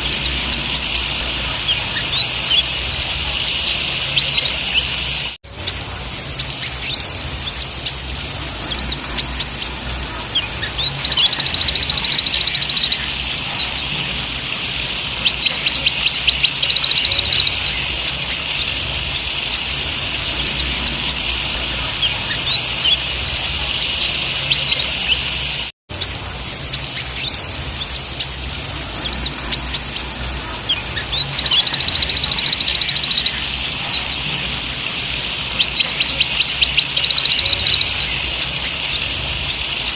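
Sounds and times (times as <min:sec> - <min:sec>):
birds chirping: 0:00.0 - 0:39.9
fast buzzing trills: 0:00.0 - 0:39.9.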